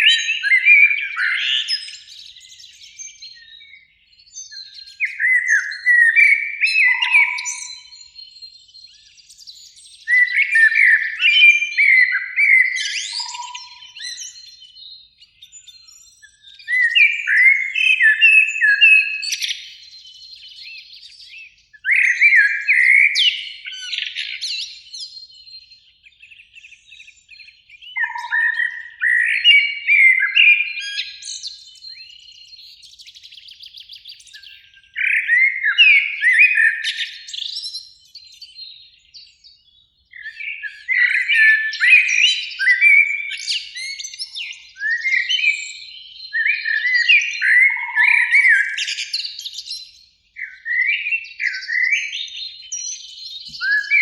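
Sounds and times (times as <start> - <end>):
blackbird singing: 0.0 - 54.0.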